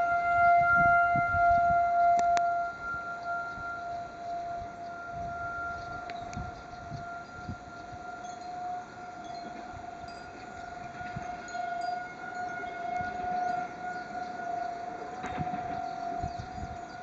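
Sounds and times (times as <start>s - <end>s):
tornado warning siren: 0.0s - 17.0s.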